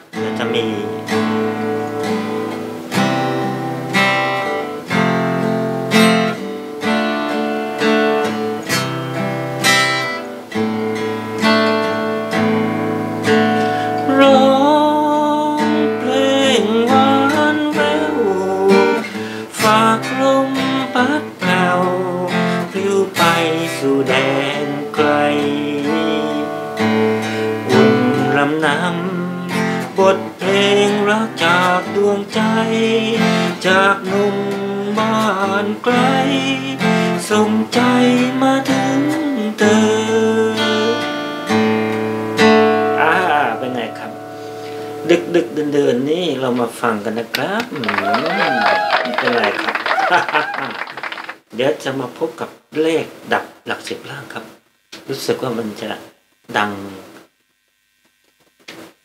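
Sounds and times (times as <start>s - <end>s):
acoustic guitar: 0.0s - 54.3s.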